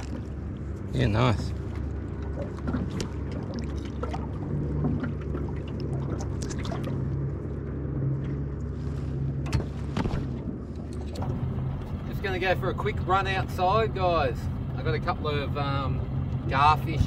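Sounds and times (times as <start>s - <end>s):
boat motor idling: 0.0s - 17.0s.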